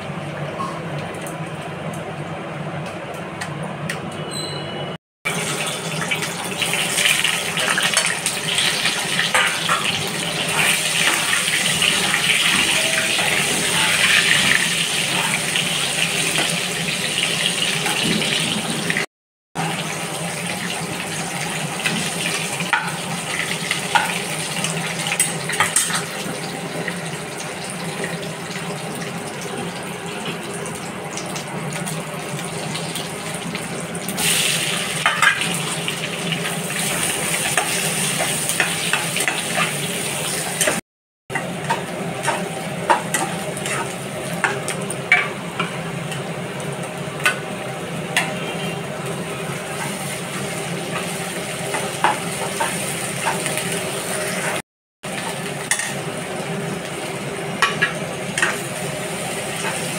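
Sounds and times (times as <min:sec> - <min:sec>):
oil sizzling in a pan: 0:05.3 - 0:59.9.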